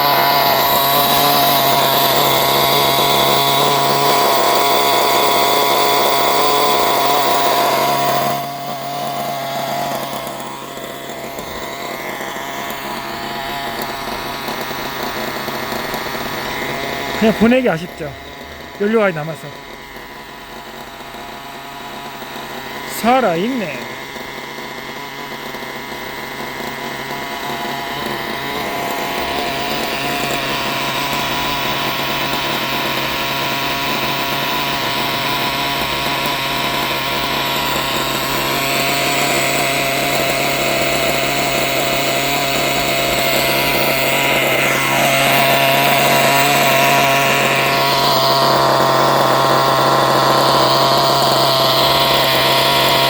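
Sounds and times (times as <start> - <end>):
small nitro engine running: 0.0 - 53.0.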